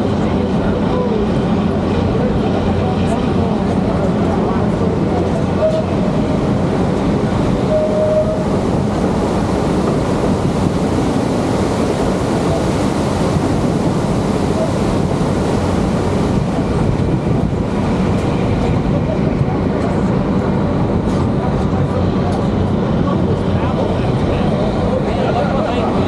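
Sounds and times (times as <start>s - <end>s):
train rumbling and rattling: 0.0s - 26.0s.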